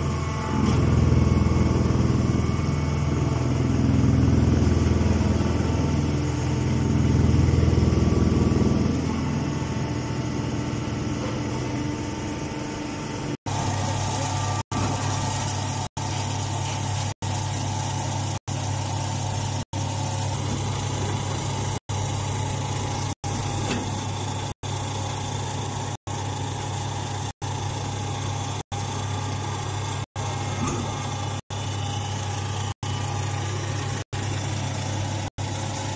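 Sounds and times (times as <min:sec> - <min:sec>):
hydraulic power unit humming: 0:00.0 - 0:35.9.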